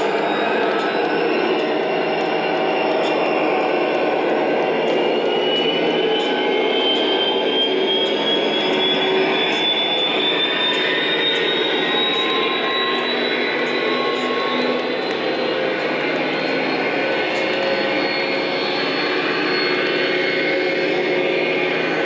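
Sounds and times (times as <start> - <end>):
thin whine rising in pitch: 0.0 - 22.0.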